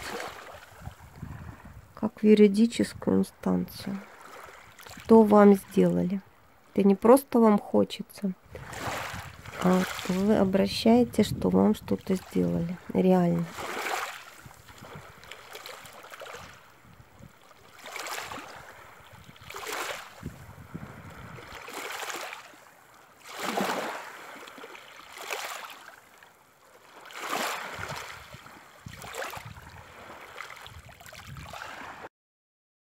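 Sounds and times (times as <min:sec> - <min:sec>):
small waves washing on shore: 0:00.0 - 0:06.8, 0:08.4 - 0:32.1.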